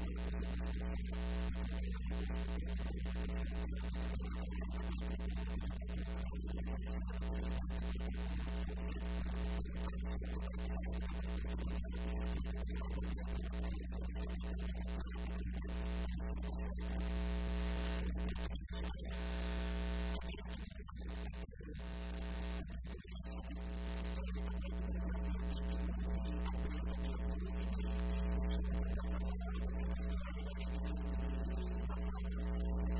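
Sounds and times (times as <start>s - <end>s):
electrical mains hum: 0.0s - 32.9s.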